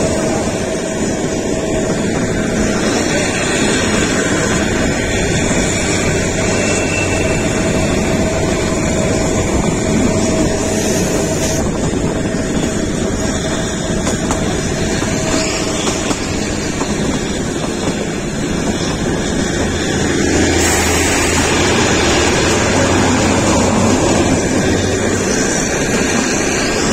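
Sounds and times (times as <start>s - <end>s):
train rumbling along track: 0.0s - 26.9s.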